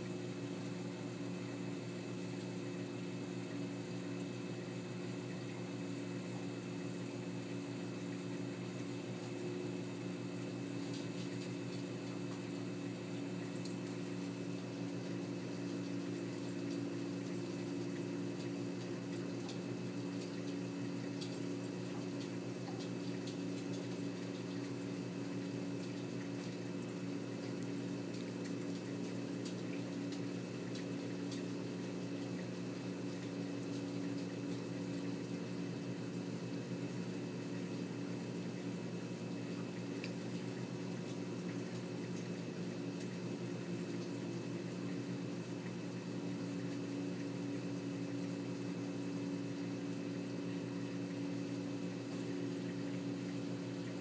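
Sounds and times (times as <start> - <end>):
water pump humming: 0.0 - 54.0.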